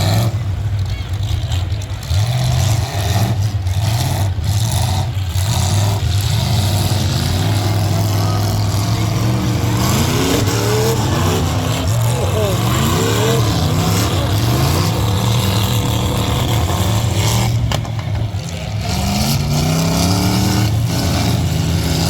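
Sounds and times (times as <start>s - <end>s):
engines revving up: 0.0s - 22.0s
truck engines running loudly: 0.0s - 22.0s.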